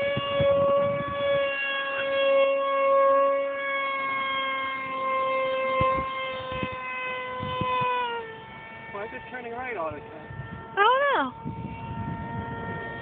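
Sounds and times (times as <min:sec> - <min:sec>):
electric motor high-pitched whine: 0:00.0 - 0:13.0
wind buffeting microphone: 0:00.0 - 0:13.0.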